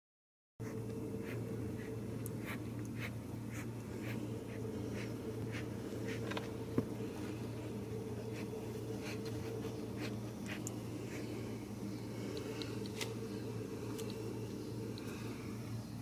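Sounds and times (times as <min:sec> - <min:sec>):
steady low hum: 0:00.6 - 0:16.0.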